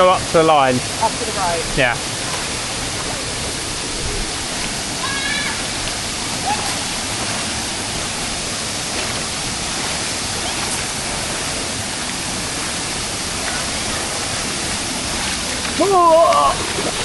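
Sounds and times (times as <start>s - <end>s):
large waterfall rushing: 0.0s - 17.0s.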